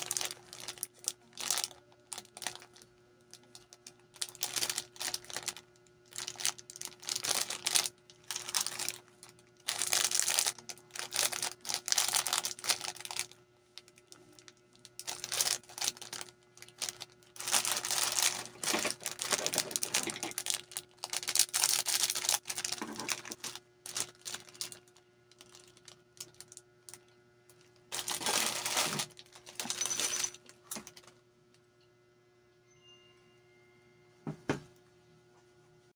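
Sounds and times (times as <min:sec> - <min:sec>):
cellophane packets crinkling: 0:00.0 - 0:31.1.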